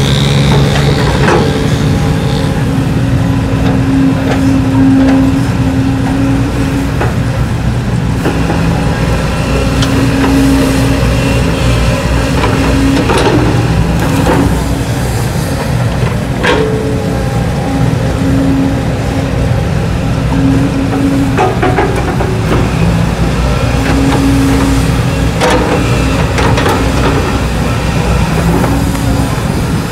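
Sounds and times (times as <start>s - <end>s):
excavator diesel engine droning: 0.0s - 29.9s.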